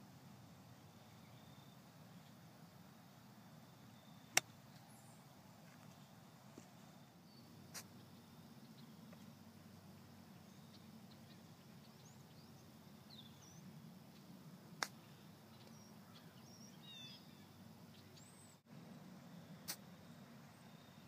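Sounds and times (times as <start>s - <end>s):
faint bird chirps: 0.8s - 2.4s, 3.4s - 14.4s, 15.0s - 18.7s, 19.3s - 21.0s.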